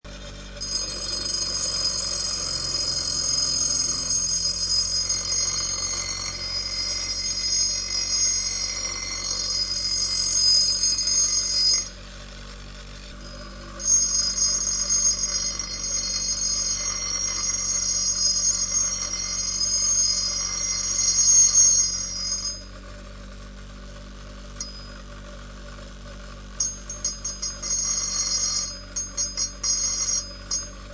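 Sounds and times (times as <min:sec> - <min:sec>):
bench grinder motor hum: 0:00.1 - 0:30.9
axe grinding on wheel: 0:00.6 - 0:12.2, 0:12.9 - 0:22.7, 0:26.6 - 0:30.9.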